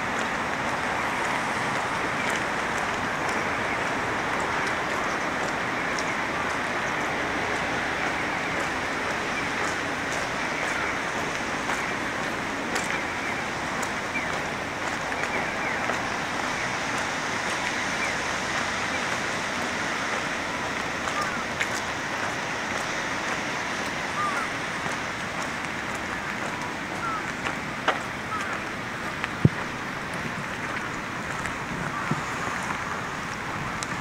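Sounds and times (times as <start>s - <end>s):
raindrops ticking close by: 0.0s - 34.0s
steady rain falling: 0.0s - 34.0s.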